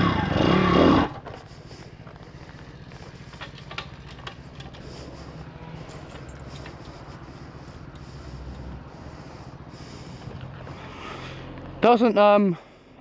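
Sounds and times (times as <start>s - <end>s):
motorbike engine idling: 0.0s - 13.0s.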